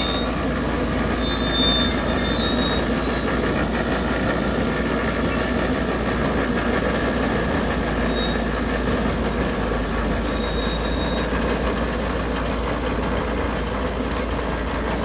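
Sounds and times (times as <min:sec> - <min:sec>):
short high squeaks: 0:00.0 - 0:15.0
tractor machinery running: 0:00.0 - 0:15.0.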